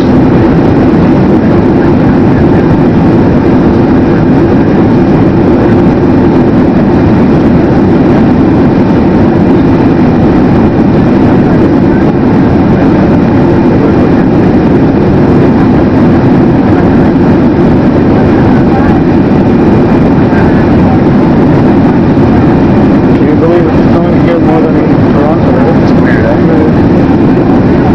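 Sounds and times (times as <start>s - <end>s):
jet engine roar in cabin: 0.0s - 27.9s.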